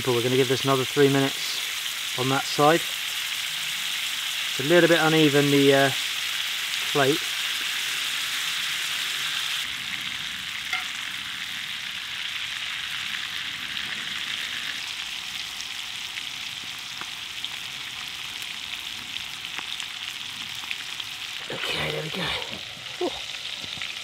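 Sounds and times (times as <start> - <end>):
meat sizzling in butter: 0.0 - 24.0.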